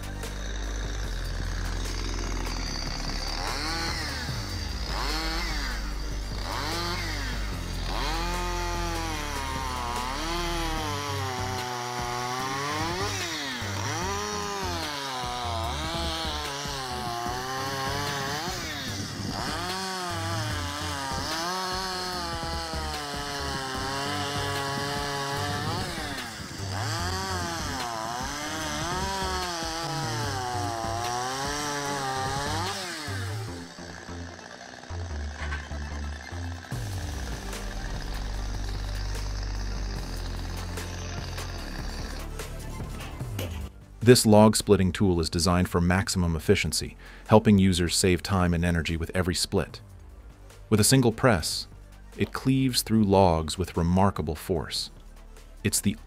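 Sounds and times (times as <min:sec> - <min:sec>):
background music: 0:00.0 - 0:56.0
chainsaw cutting logs: 0:00.0 - 0:56.0.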